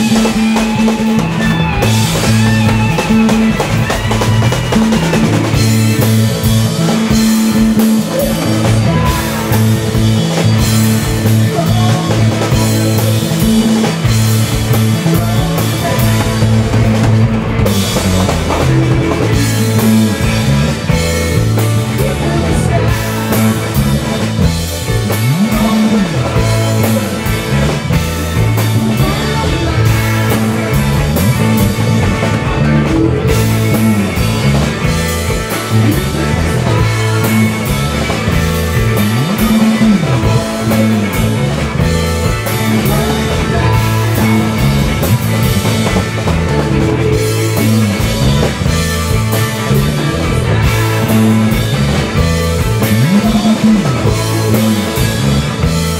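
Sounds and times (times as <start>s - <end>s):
bass guitar: 0.0s - 55.9s
drum kit: 0.0s - 55.9s
electric guitars: 0.0s - 55.9s.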